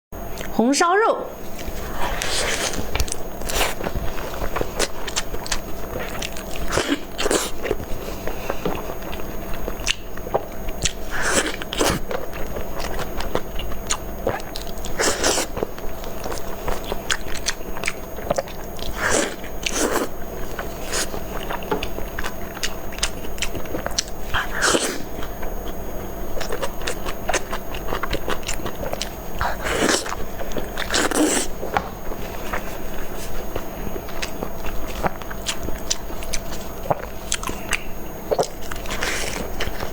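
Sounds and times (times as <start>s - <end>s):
person biting and chewing: 1.6s - 31.8s, 32.4s - 39.9s.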